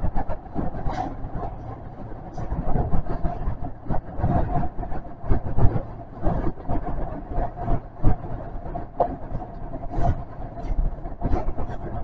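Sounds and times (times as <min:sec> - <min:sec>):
train rumbling in tunnel: 0:00.0 - 0:12.0.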